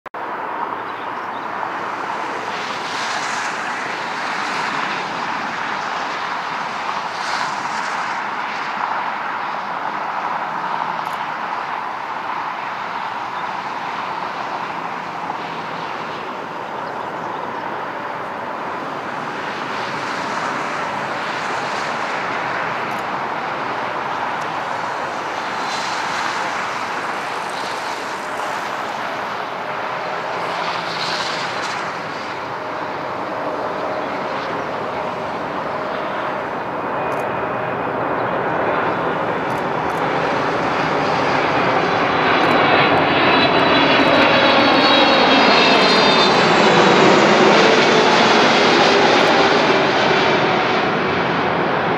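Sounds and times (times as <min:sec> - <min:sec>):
jet engine roar: 0:00.2 - 0:51.9.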